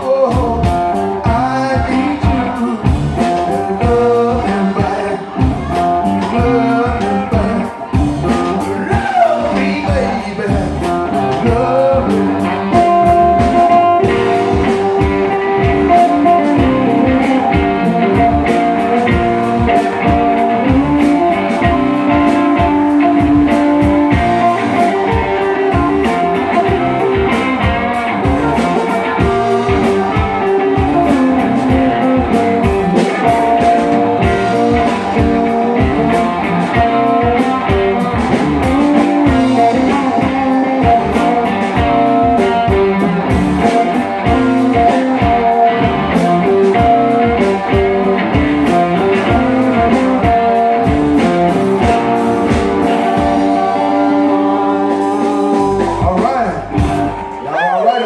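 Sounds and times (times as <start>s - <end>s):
bent electric guitar notes: 0.0s - 58.0s
blues-rock band playing: 0.0s - 58.0s.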